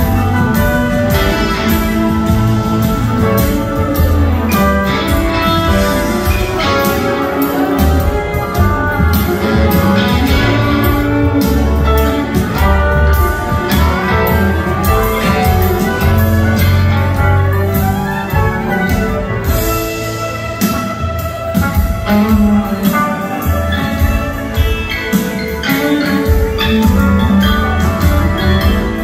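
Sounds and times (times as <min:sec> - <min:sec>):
drums: 0:00.0 - 0:29.0
guitar lines: 0:00.0 - 0:29.0
piano: 0:00.0 - 0:29.0
upright bass: 0:00.0 - 0:29.0.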